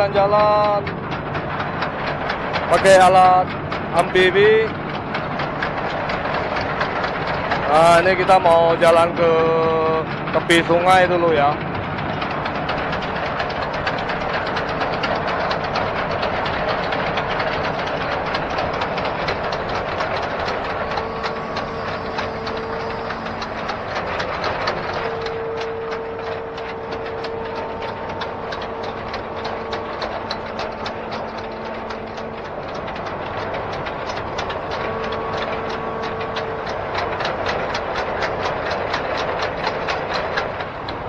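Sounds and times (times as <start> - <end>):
diesel engine running: 0.0 - 41.0
track chains clanking: 0.0 - 41.0.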